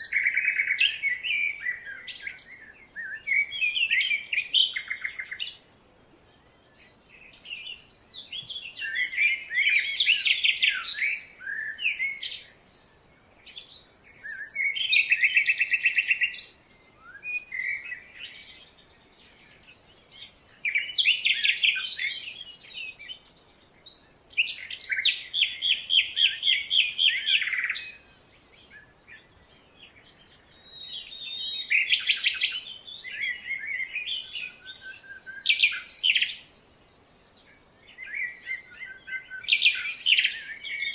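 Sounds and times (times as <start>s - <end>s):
songbirds trilling: 0.0s - 40.9s.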